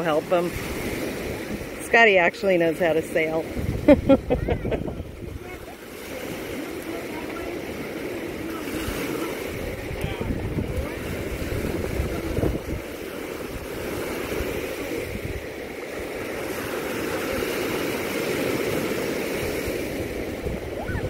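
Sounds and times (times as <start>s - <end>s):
surf breaking on shore: 0.0s - 21.0s
wind buffeting microphone: 2.9s - 21.0s.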